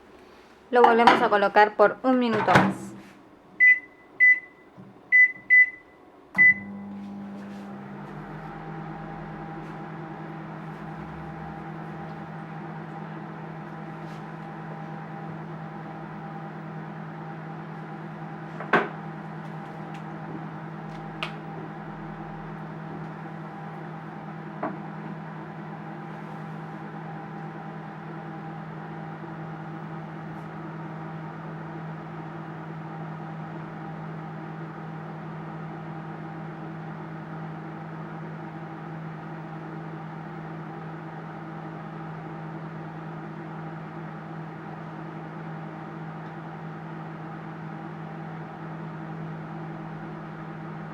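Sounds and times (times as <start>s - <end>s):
microwave oven humming: 0.0s - 50.9s.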